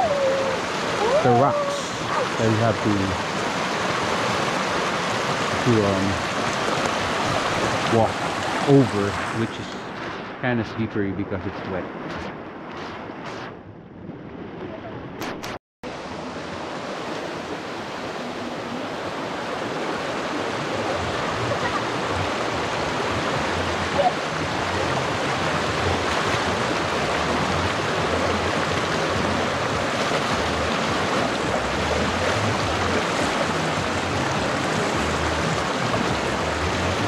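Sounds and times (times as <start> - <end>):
creek rushing around wading legs: 0.0 - 10.8, 14.6 - 37.0.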